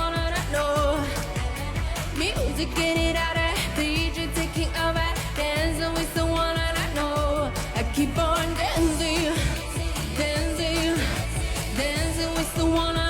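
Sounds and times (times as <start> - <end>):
person singing: 0.0 - 13.0
pop backing track with beat: 0.0 - 13.0.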